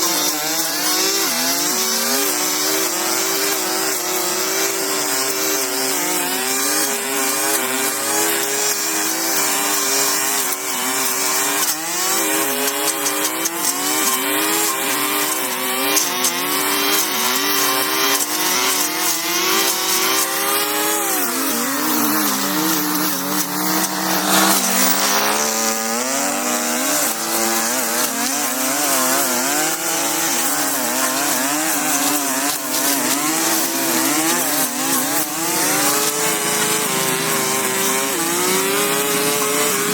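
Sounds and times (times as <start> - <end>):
small petrol engine revving: 0.0 - 39.9.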